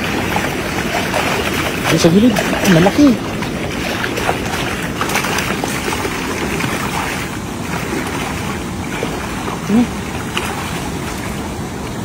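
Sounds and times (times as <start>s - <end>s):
fish thrashing and water splashing: 0.0s - 12.0s.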